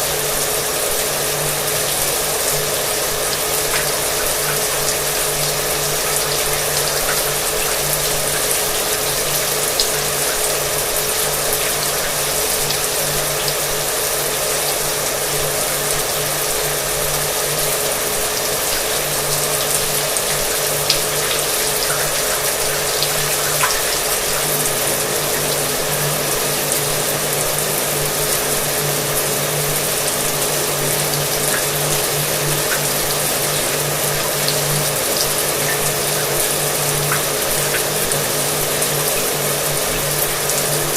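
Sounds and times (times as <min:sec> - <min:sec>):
shower water running: 0:00.0 - 0:40.9.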